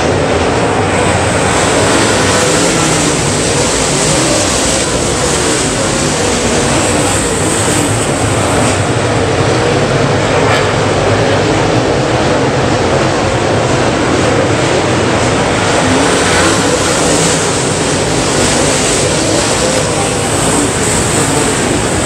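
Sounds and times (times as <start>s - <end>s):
race cars racing past: 0.0s - 22.0s.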